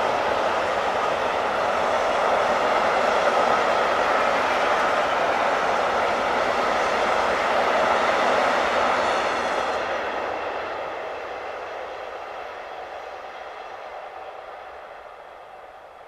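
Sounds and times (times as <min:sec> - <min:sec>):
freight train wheels rolling on rails: 0:00.0 - 0:16.0.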